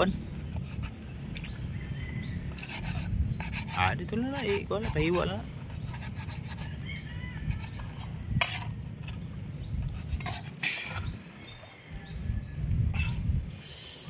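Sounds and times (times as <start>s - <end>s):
low steady rumble: 0.1s - 13.6s.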